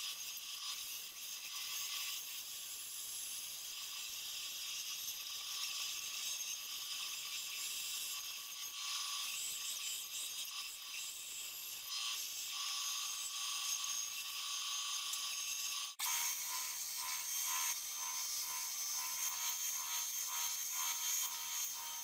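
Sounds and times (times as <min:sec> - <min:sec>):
power saw cutting wood: 0:00.0 - 0:22.0.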